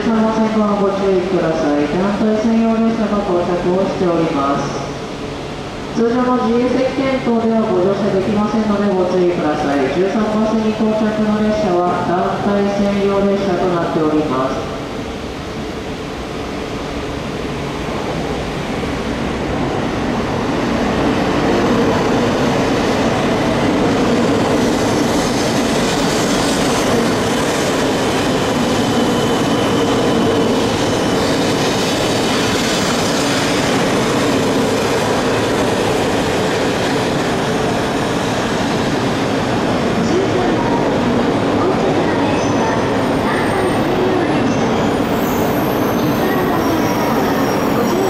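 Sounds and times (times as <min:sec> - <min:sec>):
electric train rumbling past: 0:00.0 - 0:48.0.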